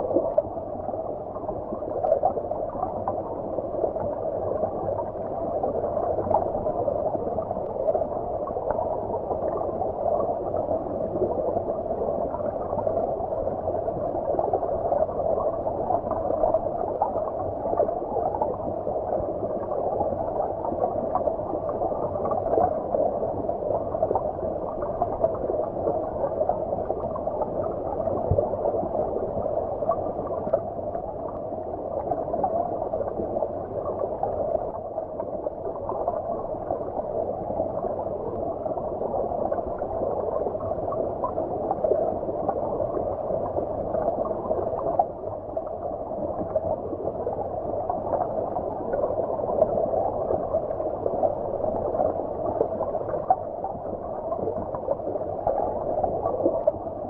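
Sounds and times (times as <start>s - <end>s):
muffled underwater stream rush: 0.0s - 57.0s.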